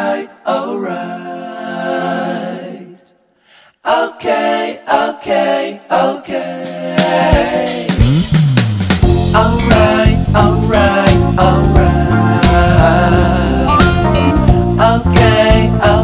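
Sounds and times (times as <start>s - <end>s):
unaccompanied voices singing: 0.0s - 8.1s, 9.1s - 16.0s.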